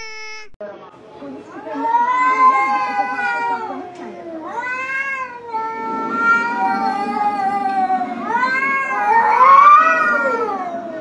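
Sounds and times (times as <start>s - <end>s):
cat yowling: 1.6s - 11.0s.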